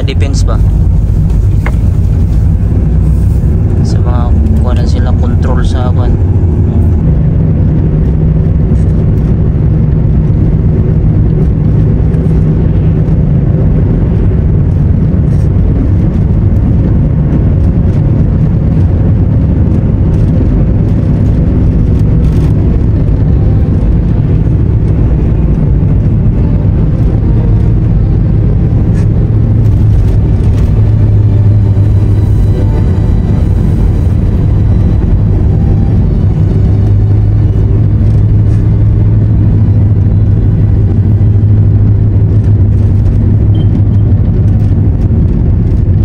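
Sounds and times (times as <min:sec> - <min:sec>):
car engine and tyre drone: 0:00.0 - 0:46.0.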